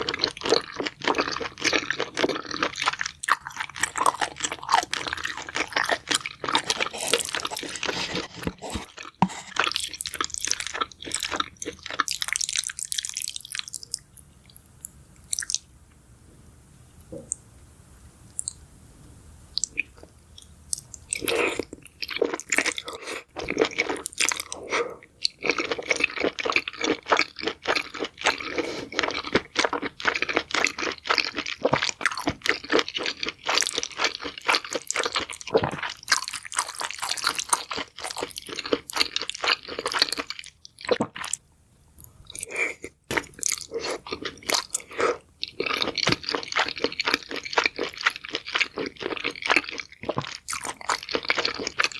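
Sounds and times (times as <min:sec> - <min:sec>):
person chewing crunchy food: 0:00.0 - 0:14.0, 0:15.2 - 0:15.6, 0:20.7 - 0:41.4, 0:42.2 - 0:51.9.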